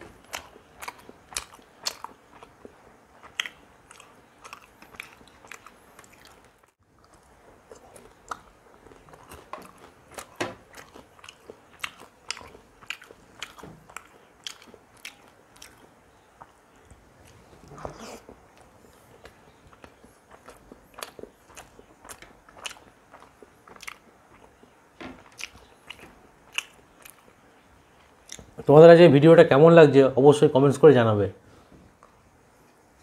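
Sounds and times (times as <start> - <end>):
person chewing crunchy food: 0.0 - 28.5.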